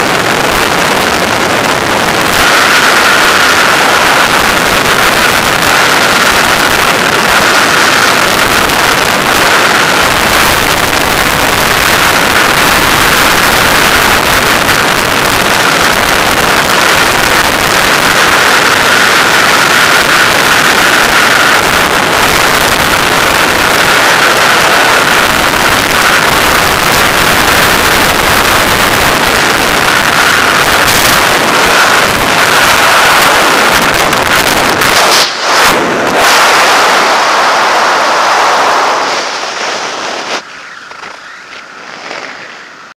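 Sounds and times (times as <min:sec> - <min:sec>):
freefall wind rushing: 0:00.0 - 0:42.9.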